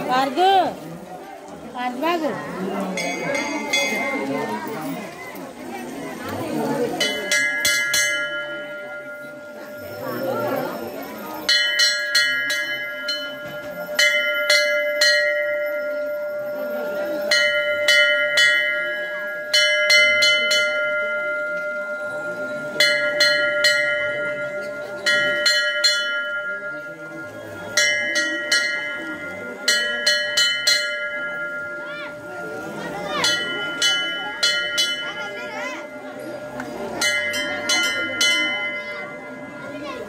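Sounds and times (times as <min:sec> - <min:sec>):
metal temple bell ringing: 0:01.8 - 0:40.0.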